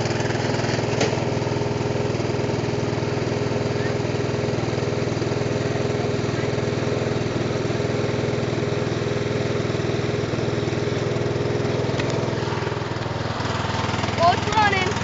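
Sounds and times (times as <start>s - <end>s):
small tractor engine running: 0.0s - 15.0s.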